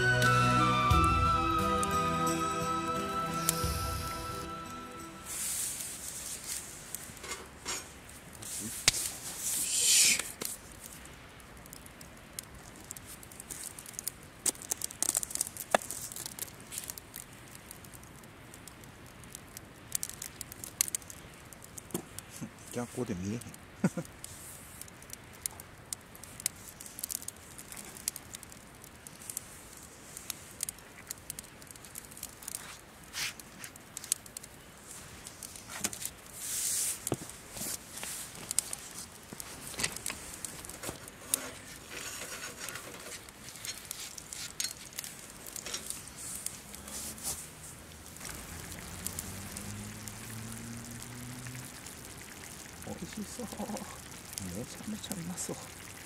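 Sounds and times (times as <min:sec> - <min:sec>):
fire hissing: 0:00.0 - 0:56.0
wood fire crackling and popping: 0:00.0 - 0:56.0.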